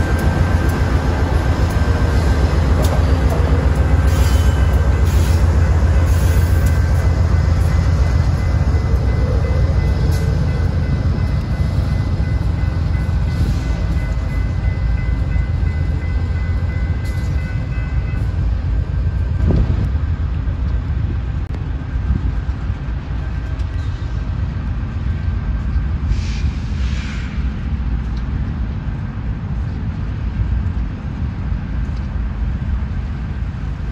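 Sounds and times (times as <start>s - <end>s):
locomotive engine rumble: 0.0s - 33.9s.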